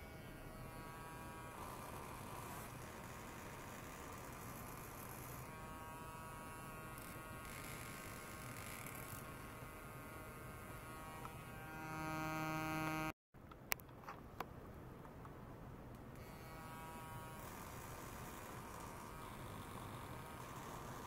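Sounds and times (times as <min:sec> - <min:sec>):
electrical buzz and hum: 0:00.0 - 0:13.2, 0:16.2 - 0:21.0.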